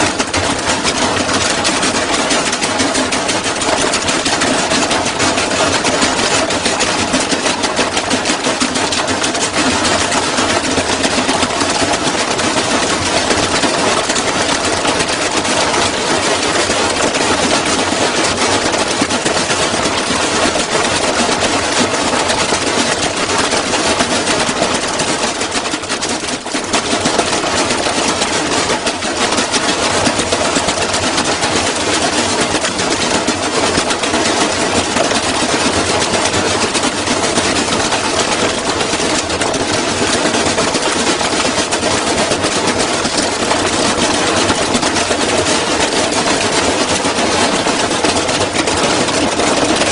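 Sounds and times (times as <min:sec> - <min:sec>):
washing machine rattling on spin: 0:00.0 - 0:49.9.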